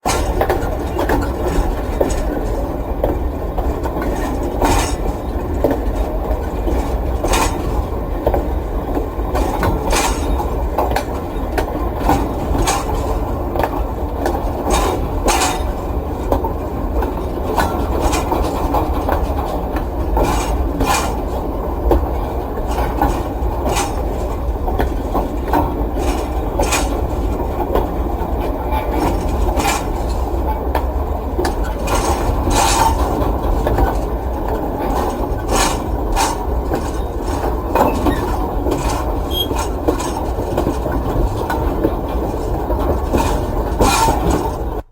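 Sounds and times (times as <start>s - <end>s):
freight train rumbling: 0.0s - 44.9s
wheels clanking over rail joints: 0.0s - 44.9s.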